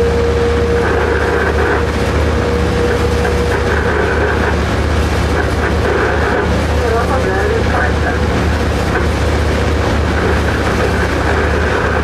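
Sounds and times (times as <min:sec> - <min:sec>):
low hum: 0:00.0 - 0:12.0
train wheels rumbling on rail: 0:00.0 - 0:12.0.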